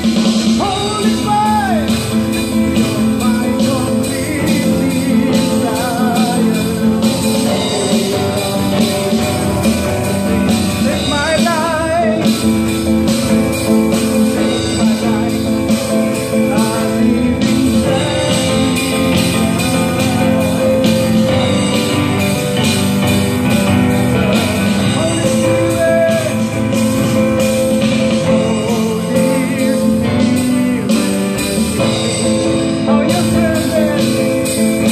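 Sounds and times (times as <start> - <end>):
man singing into microphone: 0.0 - 12.6, 14.0 - 22.2, 23.6 - 34.9
acoustic guitar: 0.0 - 34.9
electronic keyboard: 0.0 - 34.9.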